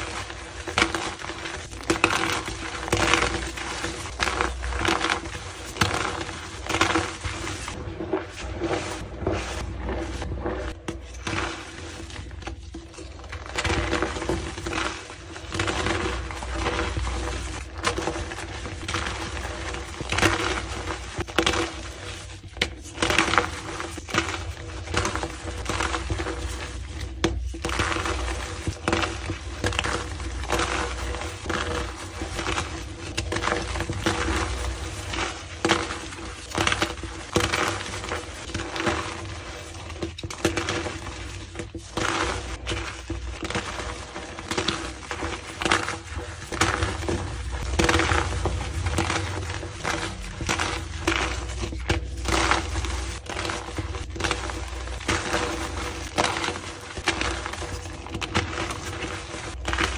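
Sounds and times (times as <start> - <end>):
chalk crunching and crackling: 0.0 - 59.9.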